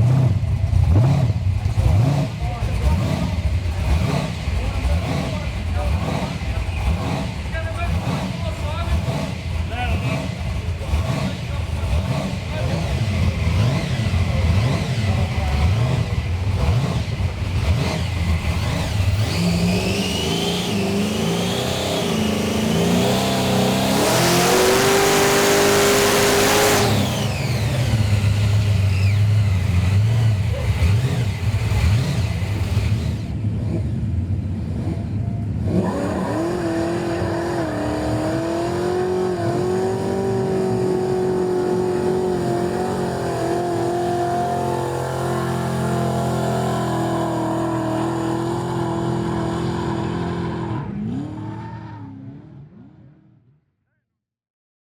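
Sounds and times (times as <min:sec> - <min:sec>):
car engine revving: 0:00.0 - 0:51.6.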